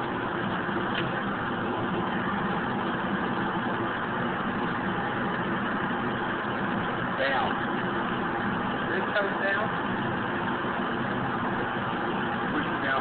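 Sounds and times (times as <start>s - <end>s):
ventilation system hum and rush: 0.0s - 13.0s.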